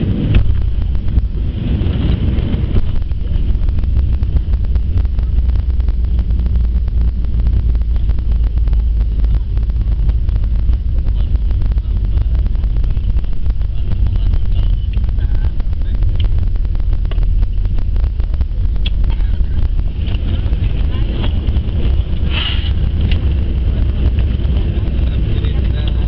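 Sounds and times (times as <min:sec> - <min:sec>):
airplane landing roll rumble: 0:00.0 - 0:26.0.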